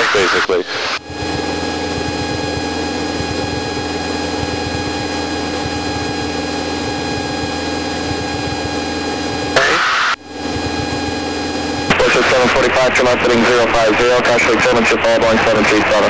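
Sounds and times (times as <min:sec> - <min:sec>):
steady whining tones: 0:00.0 - 0:16.0
airplane engine and propeller droning: 0:00.8 - 0:16.0.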